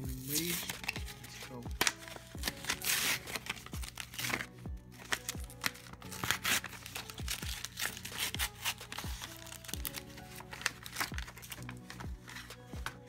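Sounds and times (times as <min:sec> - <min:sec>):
background music with steady beat: 0:00.0 - 0:13.0
wrapper crinkling and tearing: 0:00.0 - 0:13.0.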